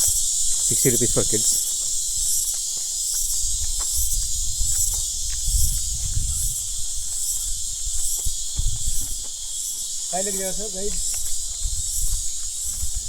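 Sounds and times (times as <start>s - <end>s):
pulsing insect chorus: 0.0s - 13.0s.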